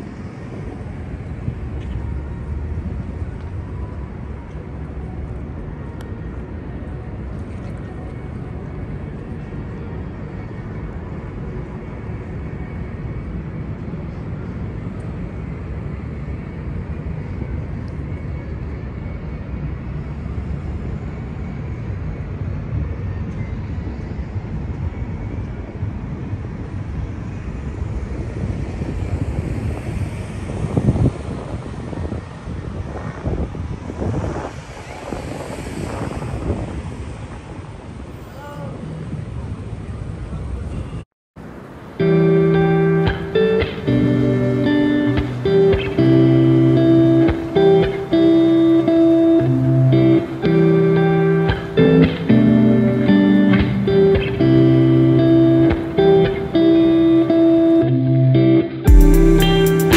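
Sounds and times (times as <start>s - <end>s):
low rumbling city ambience: 0.0s - 59.9s.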